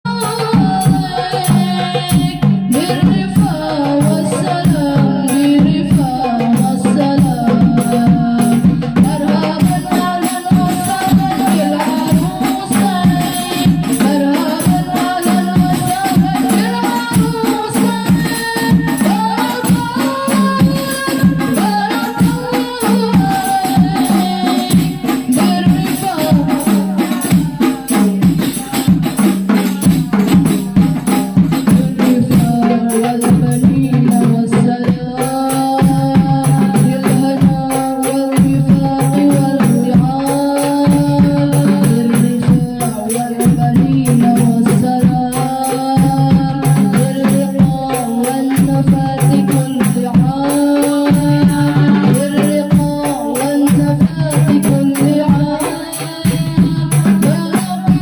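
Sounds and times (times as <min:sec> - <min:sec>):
fast steady percussion: 0:00.0 - 0:58.0.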